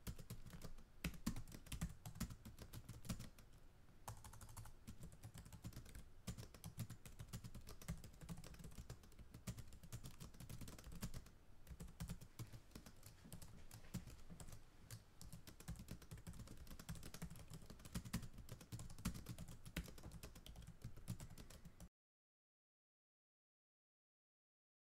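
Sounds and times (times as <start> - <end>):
keyboard typing: 0.0 - 21.8.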